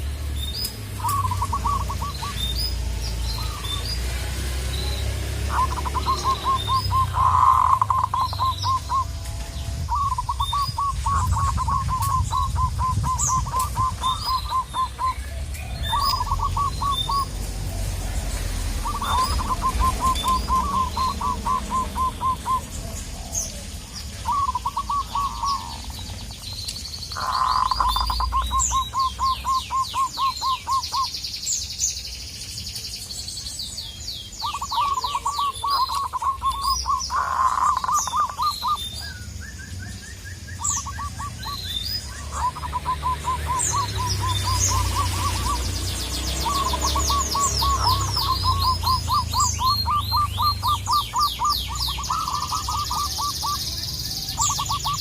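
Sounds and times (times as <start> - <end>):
small birds chirping: 0.0 - 55.0
dove cooing: 1.0 - 26.5, 27.2 - 31.2, 34.4 - 39.2, 39.9 - 55.0.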